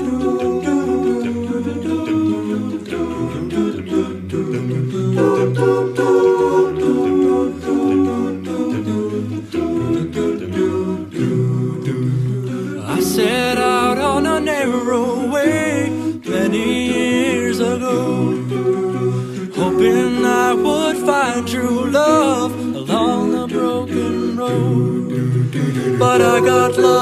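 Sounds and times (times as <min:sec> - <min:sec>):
a cappella group singing: 0:00.0 - 0:27.0.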